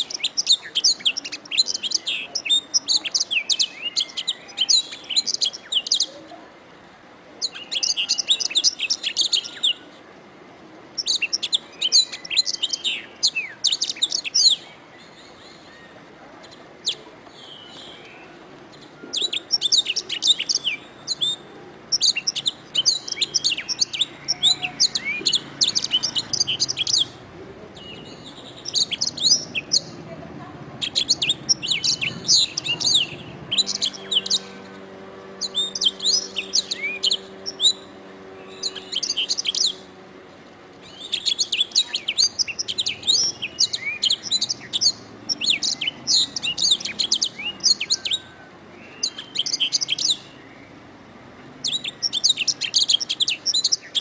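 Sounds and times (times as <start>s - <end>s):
canary singing: 0.0s - 6.4s, 7.4s - 10.0s, 10.9s - 54.0s.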